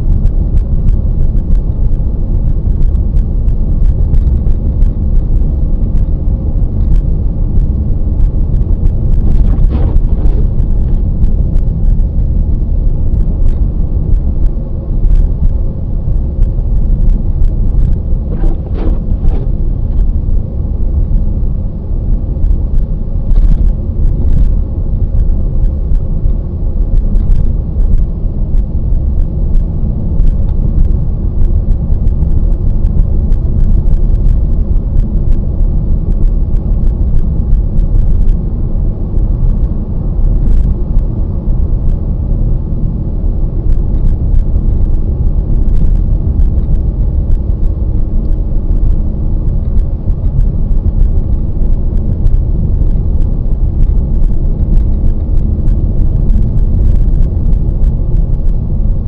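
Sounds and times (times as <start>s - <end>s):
car tyre and engine rumble: 0.0s - 59.0s.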